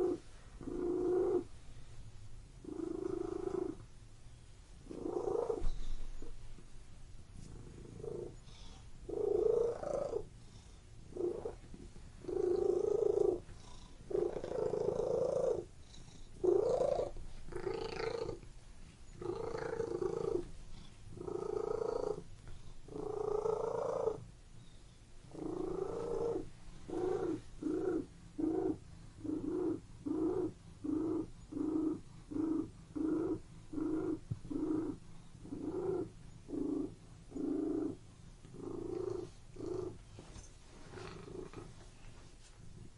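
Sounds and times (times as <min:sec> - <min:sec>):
cat purring: 0:00.0 - 0:01.7, 0:02.6 - 0:03.9, 0:04.8 - 0:06.7, 0:07.4 - 0:18.5, 0:19.1 - 0:24.4, 0:25.2 - 0:42.9.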